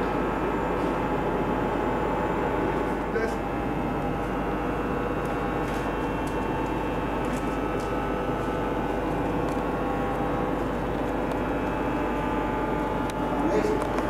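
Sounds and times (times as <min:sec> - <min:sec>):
machinery hum and hiss: 0:00.0 - 0:14.0.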